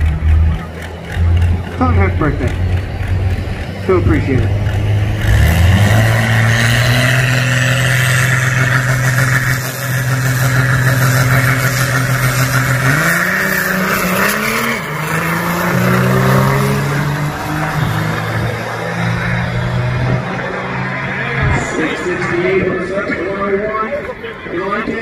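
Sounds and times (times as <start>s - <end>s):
diesel pickup engine revving: 0.0s - 23.6s
diesel pickup accelerating: 0.0s - 25.0s.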